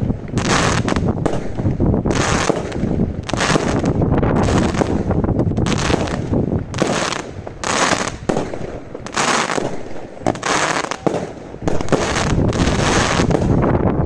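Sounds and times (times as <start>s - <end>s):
fireworks sharp cracks: 0.0s - 13.8s
wind rumble on microphone: 0.0s - 14.0s
fireworks hissing bursts: 2.1s - 13.6s.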